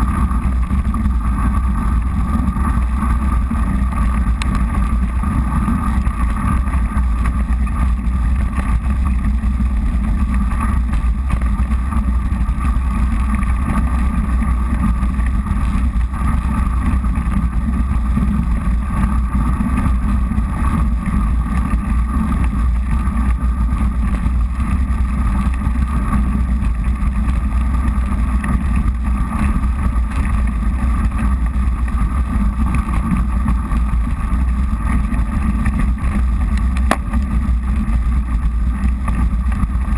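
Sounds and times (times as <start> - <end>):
bike tyres rolling over snow: 0.0 - 39.9.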